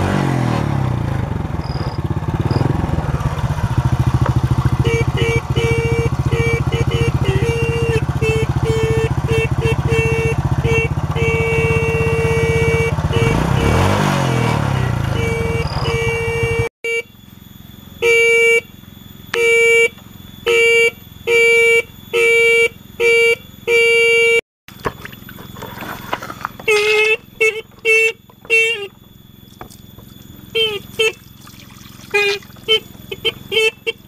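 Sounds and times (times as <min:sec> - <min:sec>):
motorcycle engine running: 0:00.0 - 0:34.0
motorcycle horn beeping: 0:01.7 - 0:17.2, 0:17.9 - 0:24.4, 0:26.3 - 0:31.4, 0:32.0 - 0:34.0.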